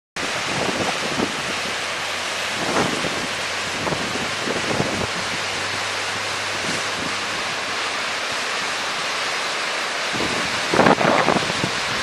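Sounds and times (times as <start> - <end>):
waterfall roaring over rock: 0.2 - 12.0.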